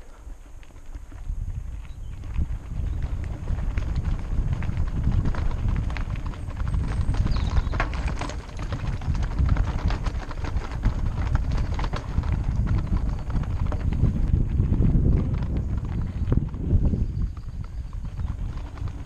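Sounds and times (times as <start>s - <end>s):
wind on microphone: 0.0s - 19.0s
bike knocking and rattling over rocks: 0.6s - 19.0s.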